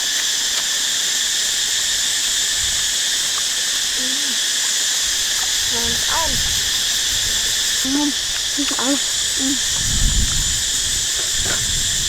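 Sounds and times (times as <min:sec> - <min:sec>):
forest insects buzzing: 0:00.0 - 0:12.0.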